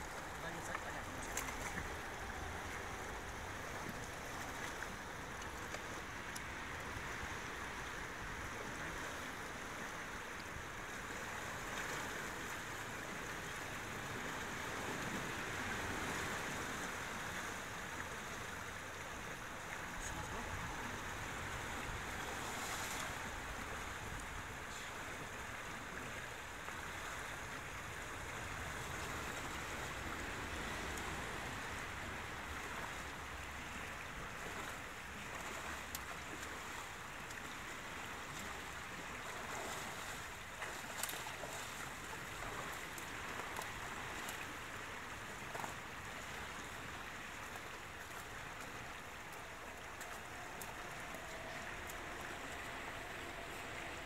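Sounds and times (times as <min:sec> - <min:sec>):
river water splashing: 0:00.0 - 0:54.0.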